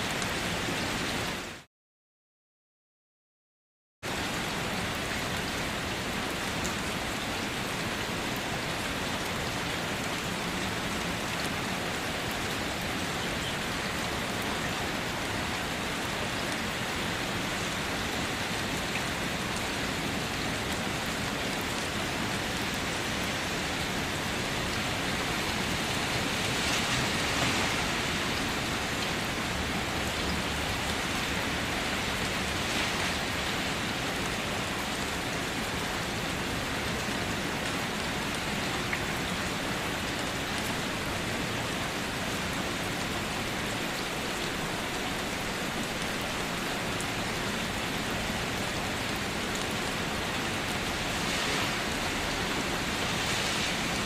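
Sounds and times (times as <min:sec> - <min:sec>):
steady rain: 0:00.0 - 0:01.7, 0:04.0 - 0:54.0.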